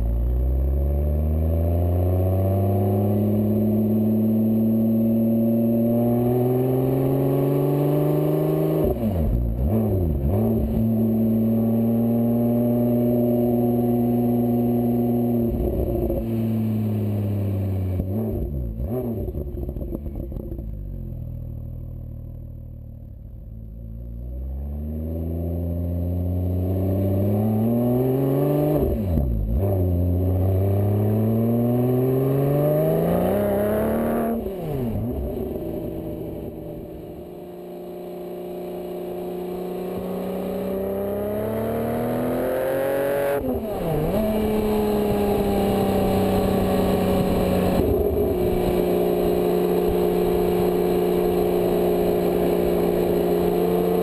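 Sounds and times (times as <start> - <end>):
sports car engine accelerating: 0.0 - 54.0.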